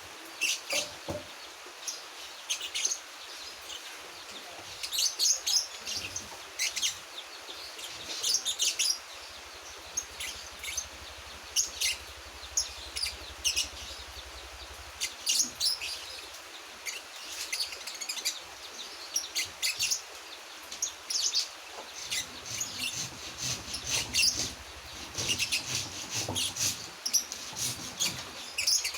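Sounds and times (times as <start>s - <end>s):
young songbird chirping: 0.4s - 20.1s, 20.8s - 28.9s.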